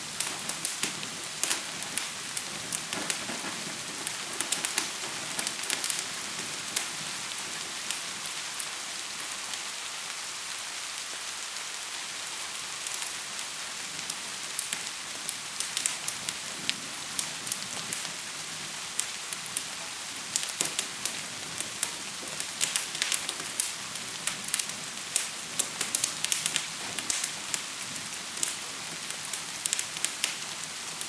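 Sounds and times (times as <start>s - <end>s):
gentle rain hiss: 0.0s - 31.0s
wood fire crackling: 0.0s - 31.0s.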